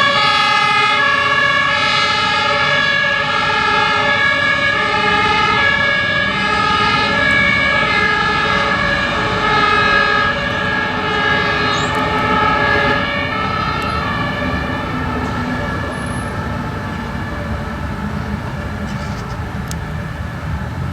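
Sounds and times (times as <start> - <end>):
heavy vehicles rumbling: 0.0 - 20.9
two-tone fire engine sirens: 0.0 - 20.9.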